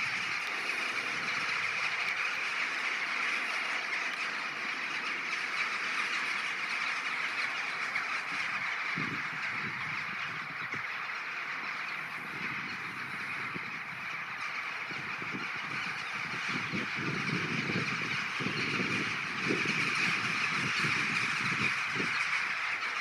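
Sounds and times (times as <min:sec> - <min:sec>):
flock of crows cawing: 0:00.0 - 0:23.0.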